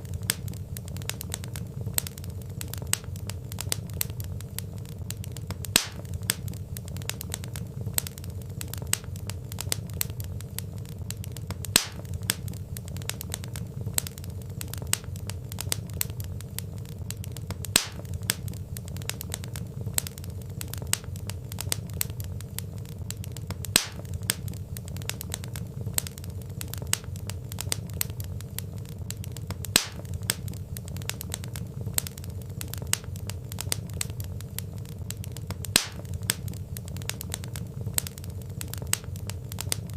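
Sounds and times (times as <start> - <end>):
log popping: 0.0 - 39.9
wood fire crackling: 0.0 - 39.9.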